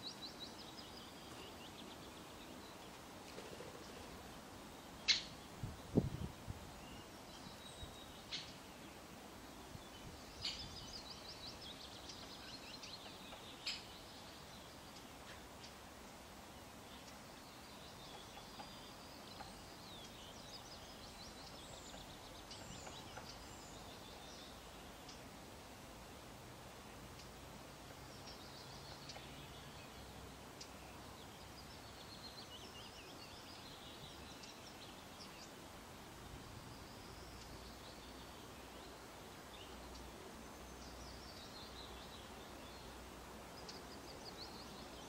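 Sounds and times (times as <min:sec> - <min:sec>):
songbirds chirping and twittering: 0:00.0 - 0:45.0.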